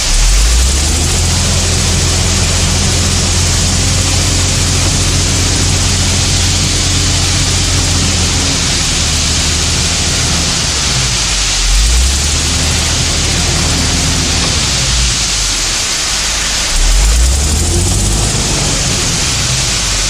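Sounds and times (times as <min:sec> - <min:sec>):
engine humming: 0:00.0 - 0:20.0
loud steady hiss: 0:00.0 - 0:20.0.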